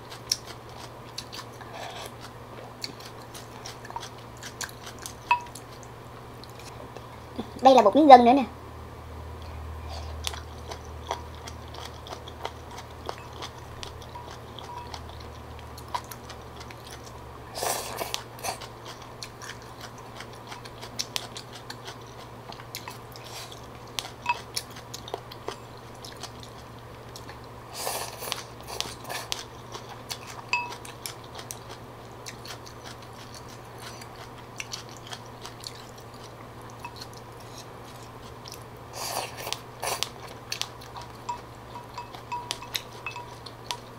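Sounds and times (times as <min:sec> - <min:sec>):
close chewing with wet mouth clicks: 0:00.0 - 0:06.7, 0:10.2 - 0:17.2, 0:18.0 - 0:43.9
steady low hum: 0:00.0 - 0:43.9.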